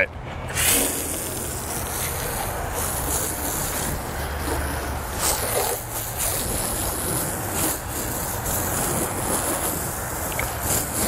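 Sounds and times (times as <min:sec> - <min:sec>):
hose nozzle spraying water: 0:00.5 - 0:11.0.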